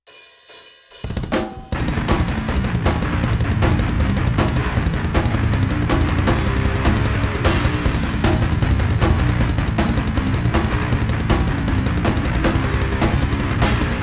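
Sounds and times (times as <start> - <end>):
snare and cymbal strikes: 0.0 - 14.0
bass drum pounding: 1.1 - 14.0
distorted guitar and bass: 1.8 - 14.0.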